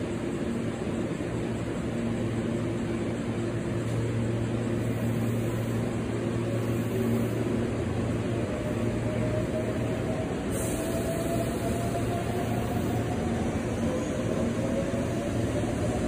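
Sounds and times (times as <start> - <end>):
electric train humming: 0.0 - 16.0.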